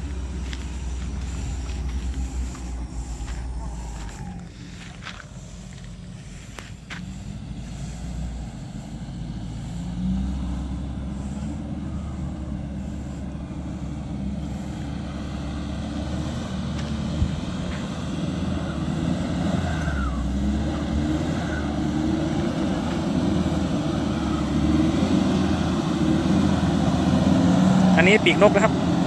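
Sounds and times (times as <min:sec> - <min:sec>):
off-road vehicle engine under load: 0:00.0 - 0:29.0.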